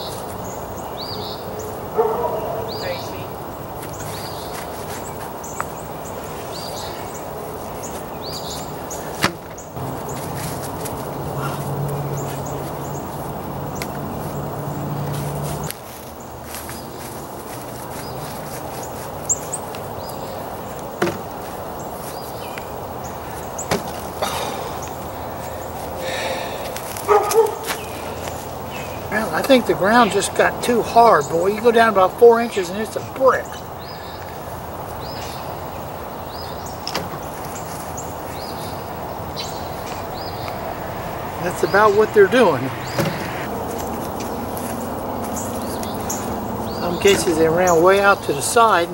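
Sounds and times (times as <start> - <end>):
bird chirping: 0.0 - 10.6, 11.2 - 48.9
rustle of soil and vines: 3.6 - 30.2, 32.5 - 48.9.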